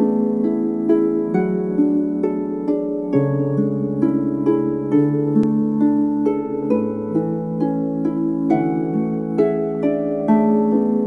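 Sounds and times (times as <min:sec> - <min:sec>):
plucked lyre melody: 0:00.0 - 0:11.0.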